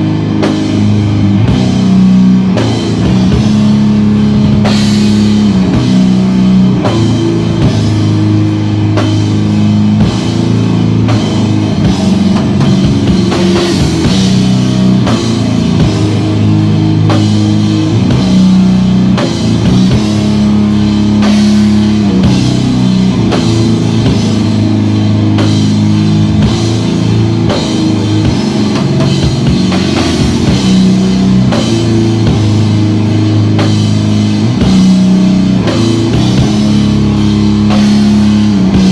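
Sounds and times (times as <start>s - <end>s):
drum kit beat: 0.0s - 38.9s
guitar and bass low notes: 0.0s - 38.9s.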